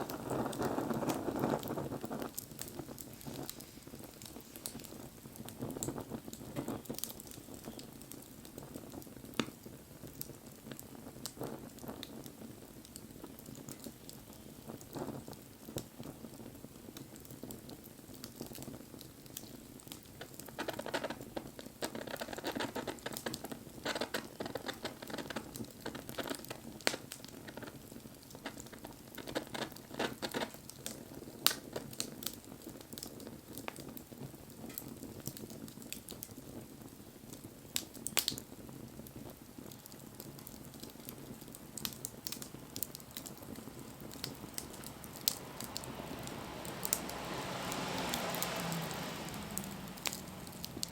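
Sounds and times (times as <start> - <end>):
sharp pops of burning wood: 0.0 - 50.9
wood fire crackling and hissing: 0.0 - 50.9.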